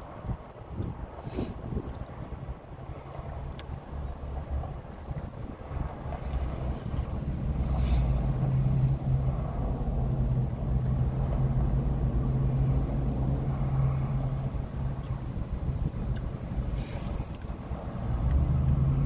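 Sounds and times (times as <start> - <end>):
low mechanical hum and rumble: 0.0 - 19.0.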